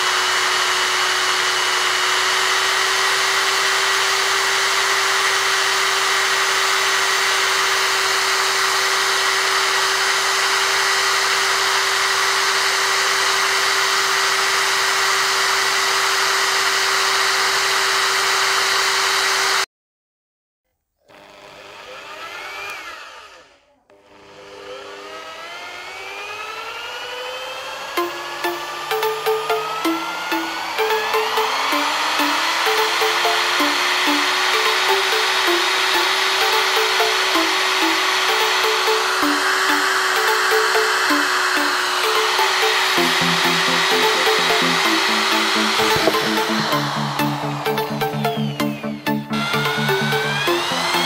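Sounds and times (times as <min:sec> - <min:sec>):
electric drill whirring: 0:00.0 - 0:19.7, 0:21.0 - 0:51.0.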